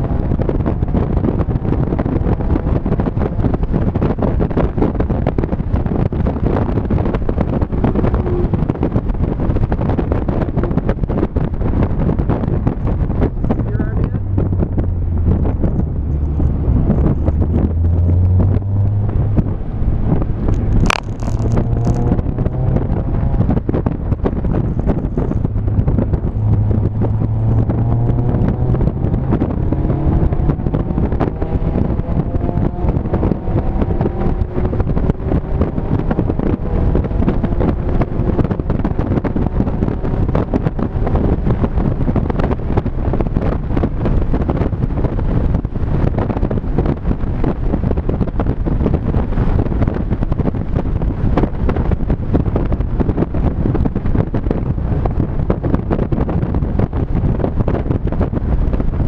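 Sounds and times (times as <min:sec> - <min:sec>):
car engine accelerating through gears: 0:00.0 - 0:59.0
wind rush: 0:00.0 - 0:59.0.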